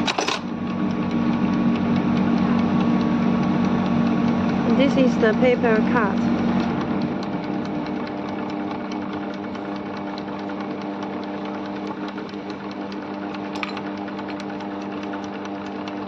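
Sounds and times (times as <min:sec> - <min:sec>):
electric machine hum: 0:00.0 - 0:16.0.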